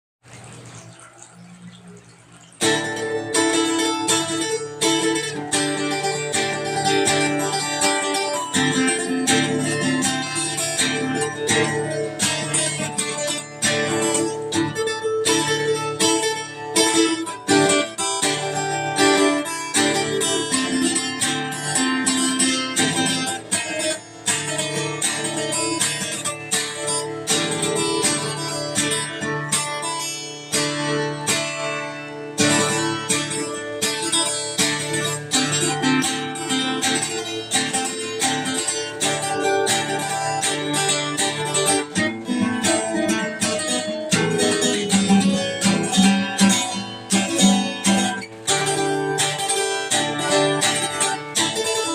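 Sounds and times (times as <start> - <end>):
plucked string instrument music: 2.6 - 51.9.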